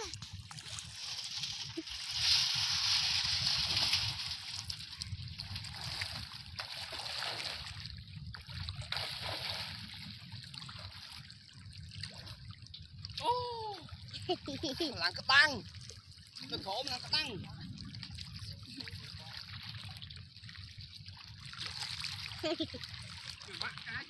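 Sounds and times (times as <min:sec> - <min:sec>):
water sloshing around wading people: 0:00.0 - 0:24.0.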